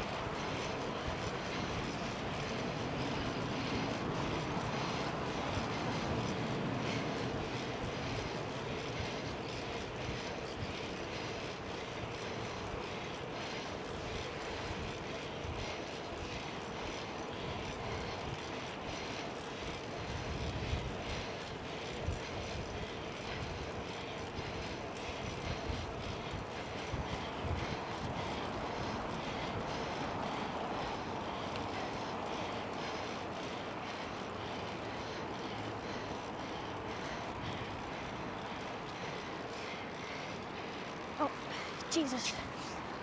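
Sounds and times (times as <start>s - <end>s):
road and tyre noise: 0.0s - 43.0s.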